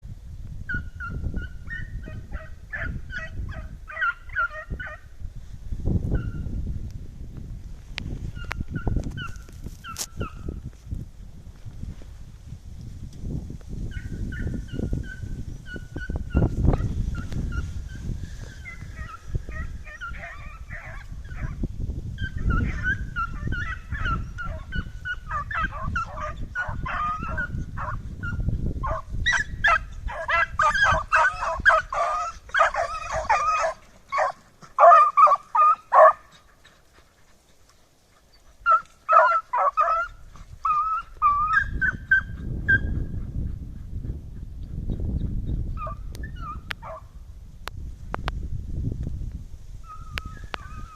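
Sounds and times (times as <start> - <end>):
hounds baying and yelping: 0.7 - 5.1, 8.3 - 10.6, 13.9 - 47.1, 49.8 - 50.9.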